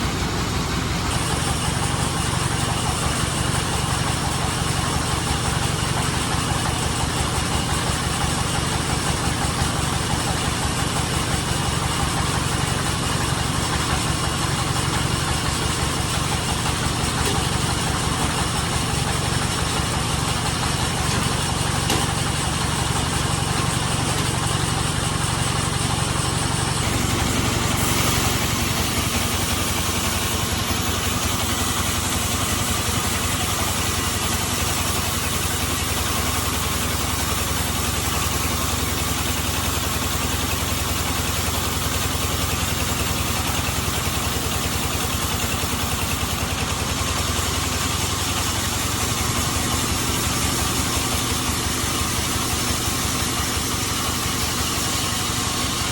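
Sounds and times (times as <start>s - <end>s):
band saw machinery running: 0.0s - 55.9s
engine drone: 0.0s - 55.9s.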